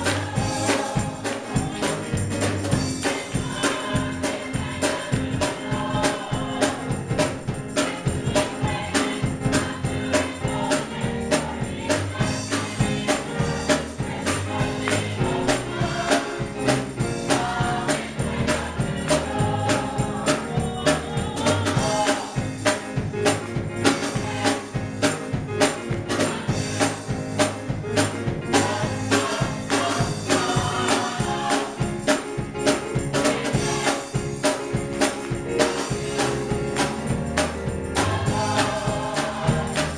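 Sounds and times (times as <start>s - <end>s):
band percussion and bass: 0.0s - 39.9s
gospel choir singing: 0.0s - 39.9s.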